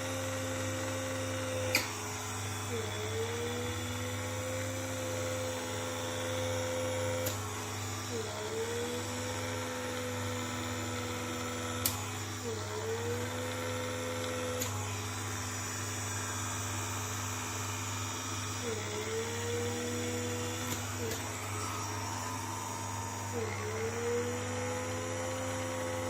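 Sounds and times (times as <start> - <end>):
small suction motor whining: 0.0 - 26.0.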